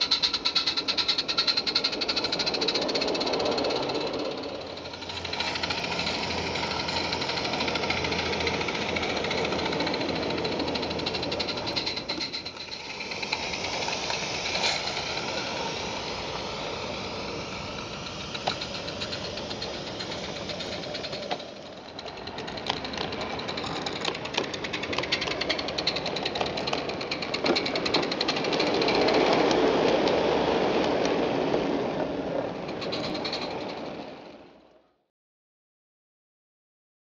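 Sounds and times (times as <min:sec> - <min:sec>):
steam hiss: 0:00.0 - 0:34.3
steam locomotive exhaust beats: 0:00.0 - 0:34.4.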